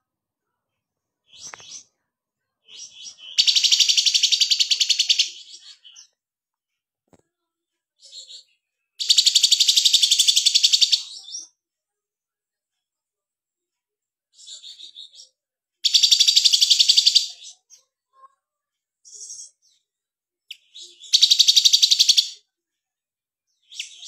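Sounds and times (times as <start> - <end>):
songbird chirping: 0.0 - 6.3, 7.1 - 11.7, 14.2 - 22.6, 23.4 - 24.0.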